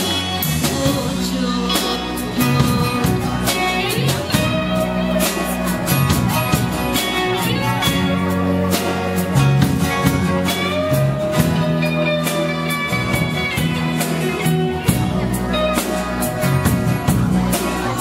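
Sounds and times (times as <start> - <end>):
drum and cymbal hits: 0.0 - 18.0
live band playing: 0.0 - 18.0.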